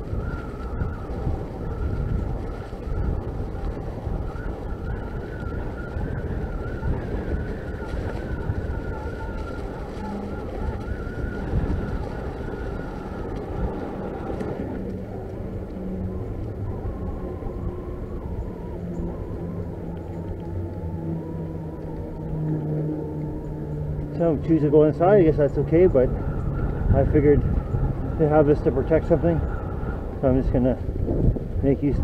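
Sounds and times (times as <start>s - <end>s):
bike tyres rumbling on trail: 0.0s - 32.0s
tyres humming on boardwalk: 0.0s - 32.0s
wind on microphone: 0.0s - 32.0s.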